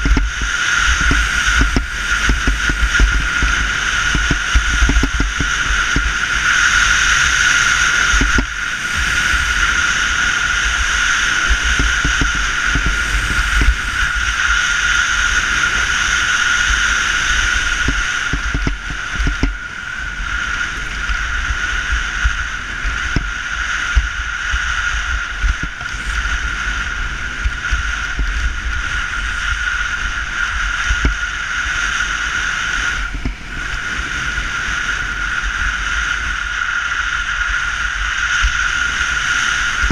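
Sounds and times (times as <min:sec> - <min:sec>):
low rumble: 0:00.0 - 0:39.9
snowboard scraping over snow: 0:00.0 - 0:39.9.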